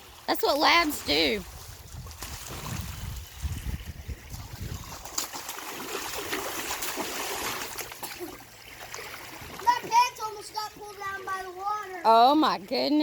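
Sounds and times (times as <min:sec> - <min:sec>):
pool water sloshing and trickling: 0:00.0 - 0:13.0
small water splashes: 0:00.0 - 0:13.0.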